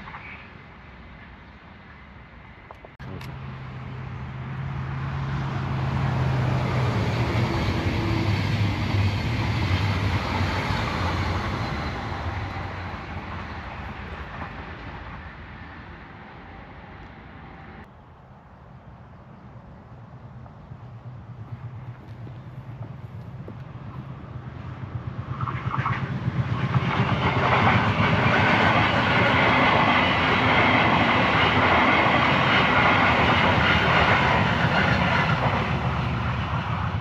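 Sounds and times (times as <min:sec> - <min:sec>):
wheels rushing on rails: 0:00.0 - 0:17.9, 0:19.4 - 0:37.0.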